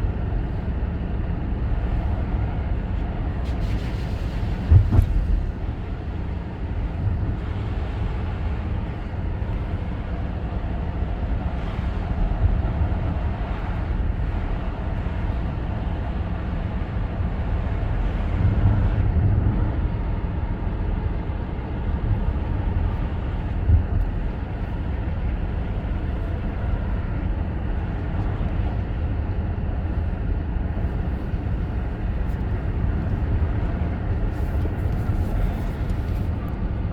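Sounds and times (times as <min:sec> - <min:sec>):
car engine and tyre rumble: 0:00.0 - 0:36.9.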